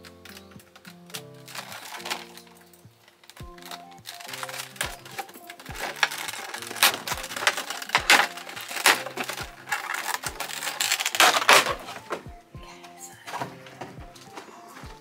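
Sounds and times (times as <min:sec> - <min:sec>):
background music with beat: 0:00.0 - 0:15.0
plastic packaging crackling: 0:00.0 - 0:15.0.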